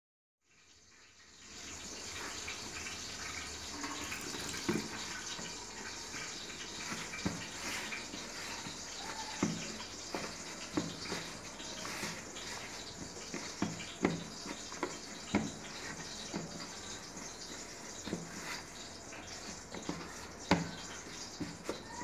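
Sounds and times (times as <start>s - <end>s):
tap water running into sink: 0.8s - 22.0s
dough mixing knocks in tub: 3.7s - 22.0s.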